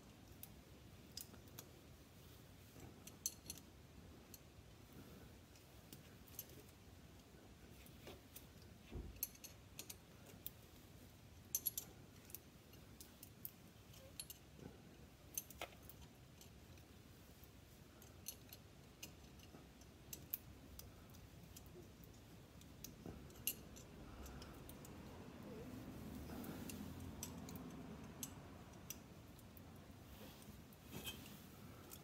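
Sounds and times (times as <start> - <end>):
light metallic clicks and clinks: 0.0 - 32.0.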